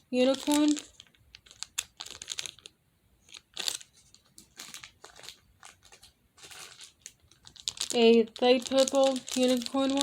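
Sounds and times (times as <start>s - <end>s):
crinkling rustles: 0.1s - 10.0s.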